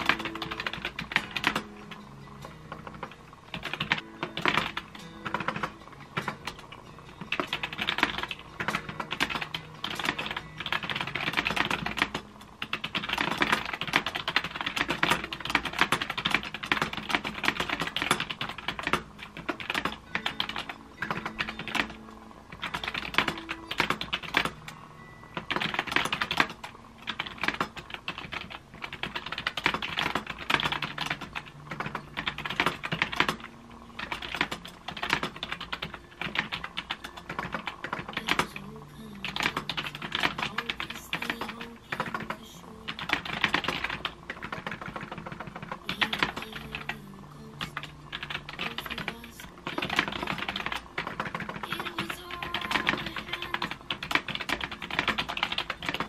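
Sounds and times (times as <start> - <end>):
background piano music: 0.0 - 56.0
laptop keyboard typing: 0.0 - 56.0.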